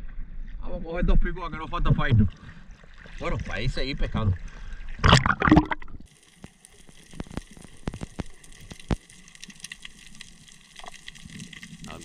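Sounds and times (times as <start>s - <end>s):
faint underwater crackle: 0.0s - 12.0s.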